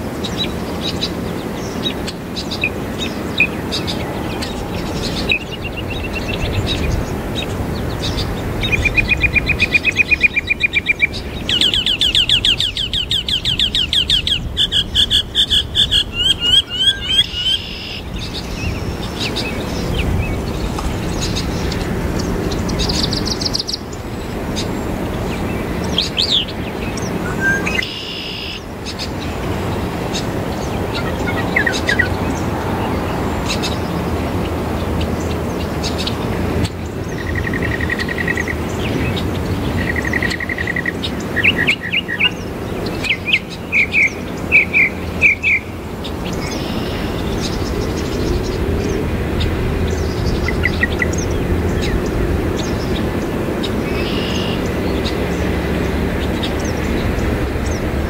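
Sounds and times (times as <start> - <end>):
mockingbird singing: 0.2 - 58.0.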